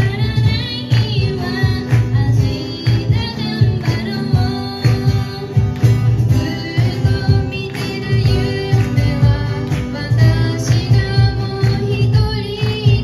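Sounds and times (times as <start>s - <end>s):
acoustic guitars strummed: 0.0s - 13.0s
cajon beat: 0.0s - 13.0s
girl singing into a microphone: 0.0s - 13.0s.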